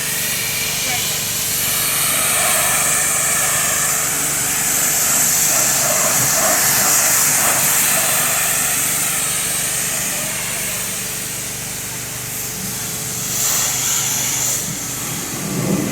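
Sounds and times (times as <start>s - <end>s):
pressure washer motor hum: 0.0s - 15.9s
water spray hissing: 0.0s - 15.9s.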